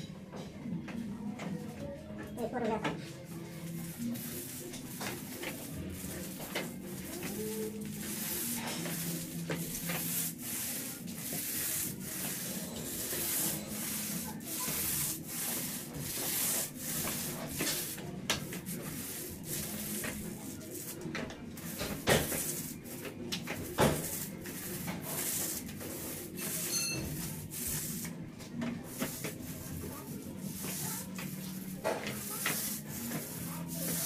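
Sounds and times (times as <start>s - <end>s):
paint roller swishing: 3.3s - 34.0s.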